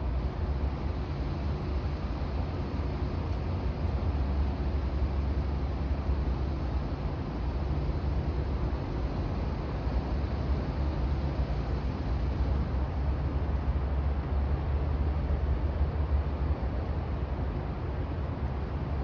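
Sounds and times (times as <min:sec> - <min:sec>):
hiss of noise: 0:00.0 - 0:19.0
low ship engine rumble: 0:00.0 - 0:19.0.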